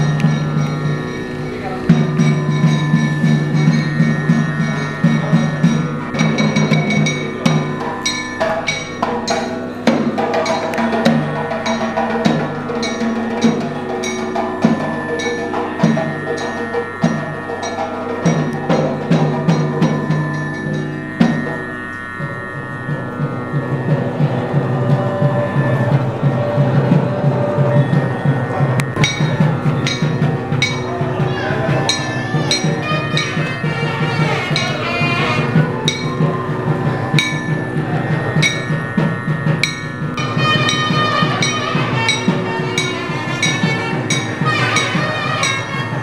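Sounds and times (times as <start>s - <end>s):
percussion struck quickly: 0.0s - 46.0s
ringing bell-like notes: 0.0s - 46.0s
steady held tones: 0.0s - 46.0s.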